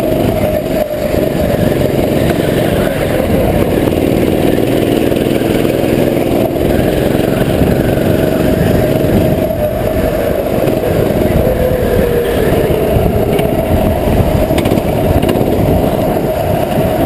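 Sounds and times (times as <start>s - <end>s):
go-kart engine rumbling: 0.0s - 17.0s.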